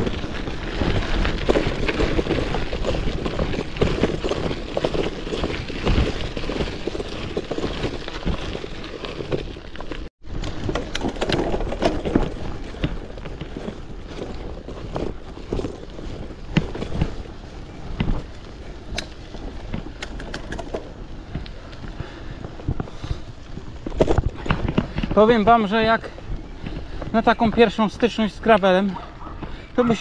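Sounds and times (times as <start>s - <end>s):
bike rattling and knocking: 0.0s - 30.0s
bike tyres crunching on gravel: 0.0s - 30.0s.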